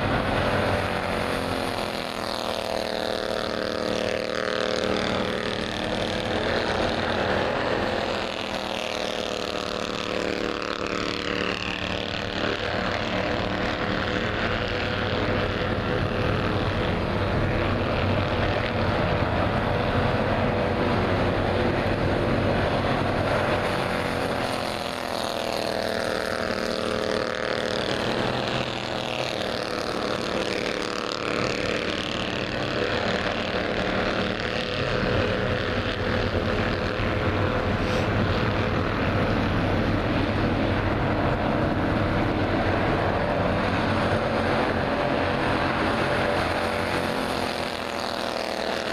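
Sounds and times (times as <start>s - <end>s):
race car engines droning: 0.0s - 48.9s.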